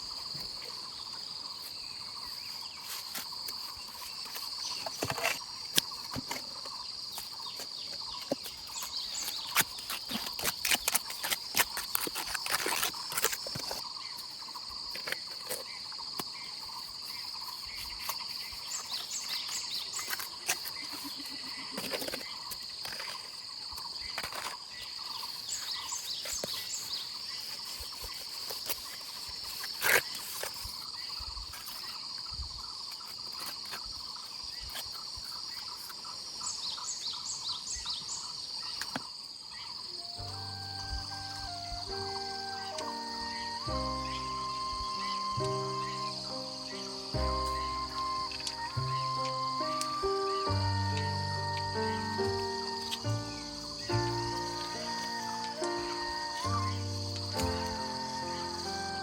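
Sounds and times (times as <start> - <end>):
crickets chirping: 0.0 - 59.0
high insect chirps: 0.0 - 59.0.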